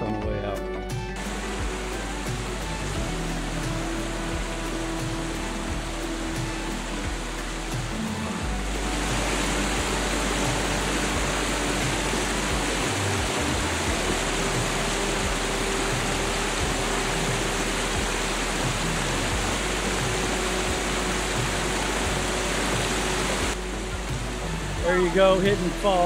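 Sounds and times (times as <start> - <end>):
waterfall rushing: 1.2 - 26.0.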